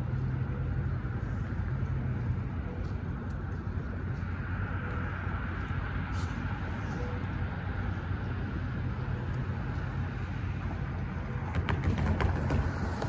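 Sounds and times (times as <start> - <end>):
low engine hum: 0.0 - 13.0
street traffic: 0.0 - 13.0.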